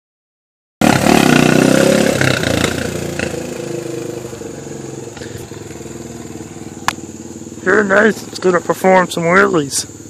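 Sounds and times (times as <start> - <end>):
dirt bike engine: 0.8 - 10.0.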